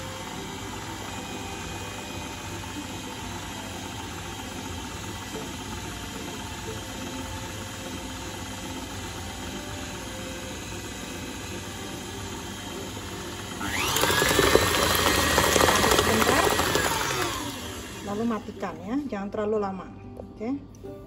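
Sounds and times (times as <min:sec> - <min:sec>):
stand mixer whisking batter: 0:00.0 - 0:19.0.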